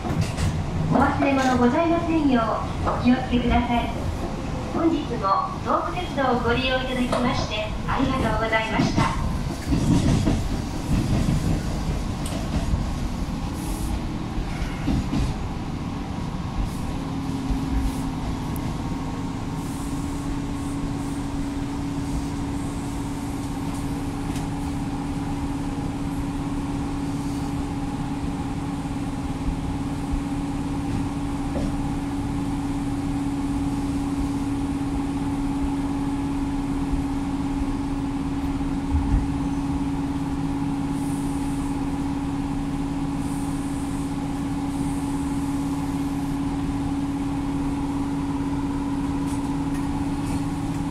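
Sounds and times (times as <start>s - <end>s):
electric train running on track: 0.0s - 50.9s.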